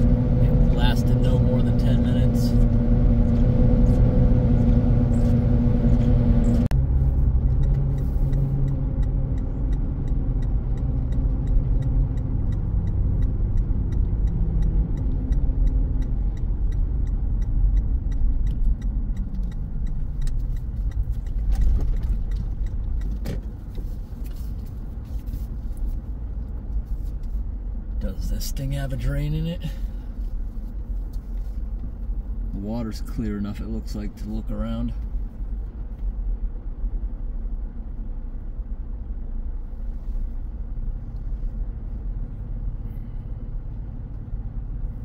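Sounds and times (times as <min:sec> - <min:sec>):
road and engine noise in car: 0:00.0 - 0:45.0.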